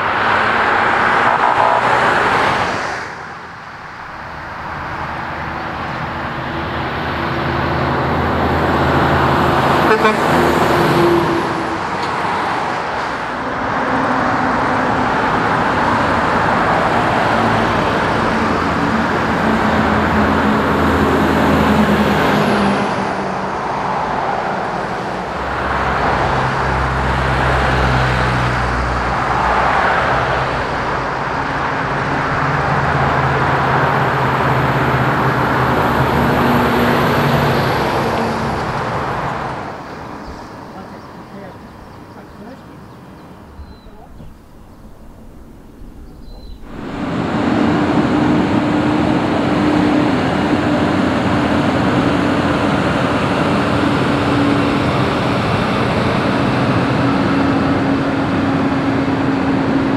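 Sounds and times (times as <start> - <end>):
cars passing close by: 0.0 - 59.9
heavy truck diesel drone: 0.0 - 59.9.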